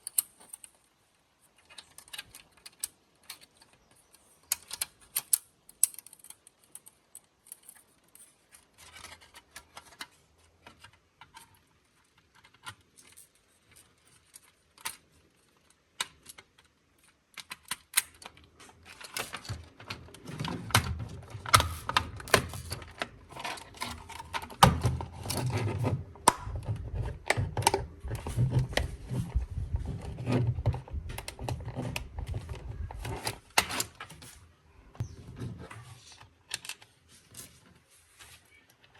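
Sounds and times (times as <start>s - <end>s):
plastic parts clicking and rattling: 0.0s - 38.9s.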